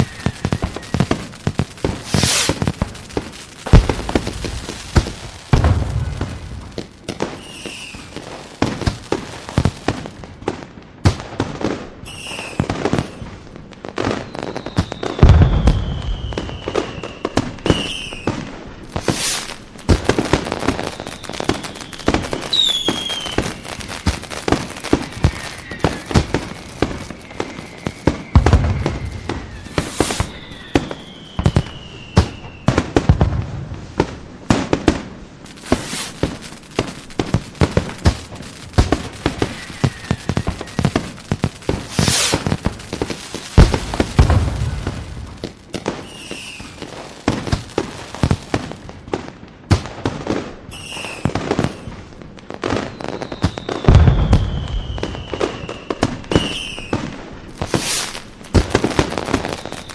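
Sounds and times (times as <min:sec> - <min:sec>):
falling fireworks whistles: 0:00.0 - 0:34.1, 0:34.7 - 0:59.9
deep fireworks booms: 0:00.0 - 0:59.9
fireworks cracks and crackling: 0:00.0 - 0:59.9.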